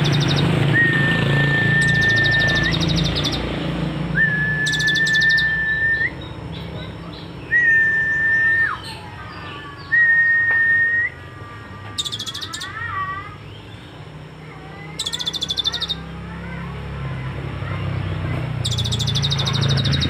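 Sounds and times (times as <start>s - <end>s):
sunbird singing: 0.0s - 17.8s, 18.6s - 20.0s.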